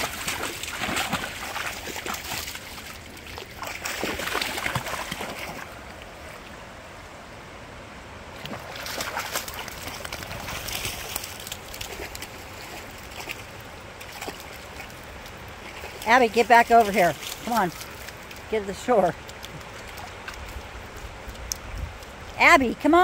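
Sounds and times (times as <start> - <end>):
dogs splashing in water: 0.0 - 5.9, 8.4 - 23.0
creek current rushing: 0.0 - 23.0.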